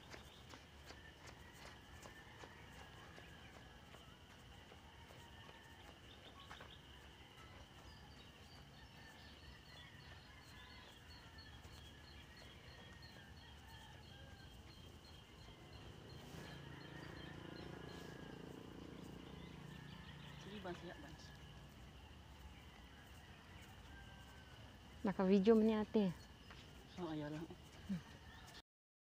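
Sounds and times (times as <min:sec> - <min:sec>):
short evenly spaced chirps: 0:00.0 - 0:28.5.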